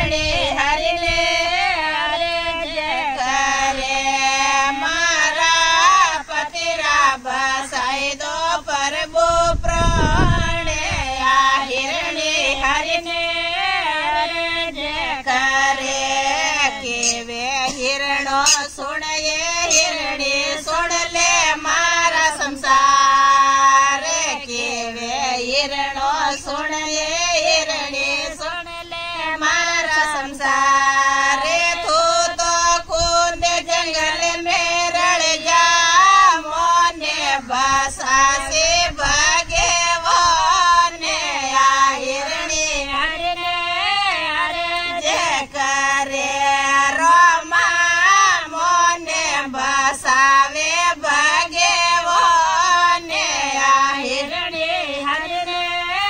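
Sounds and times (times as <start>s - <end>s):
women singing together: 0.0s - 56.0s.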